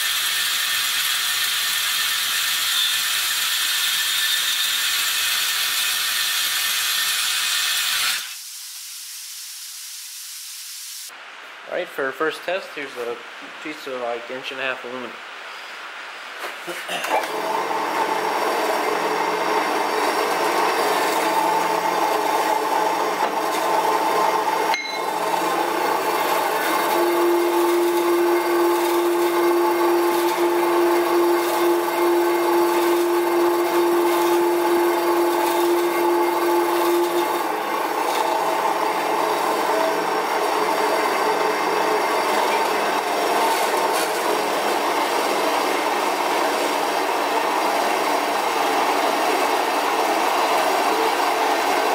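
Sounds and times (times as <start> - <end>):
bandsaw cutting metal: 0.0 - 8.4, 17.2 - 51.9.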